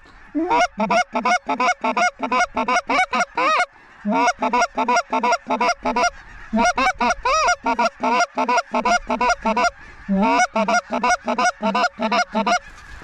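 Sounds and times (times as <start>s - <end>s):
goose call honks and clucks: 0.0s - 13.0s.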